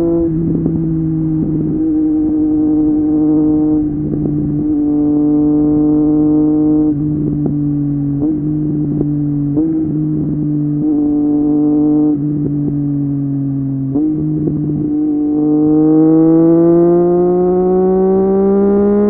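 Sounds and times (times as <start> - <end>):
motorcycle engine cruising: 0.0 - 19.0.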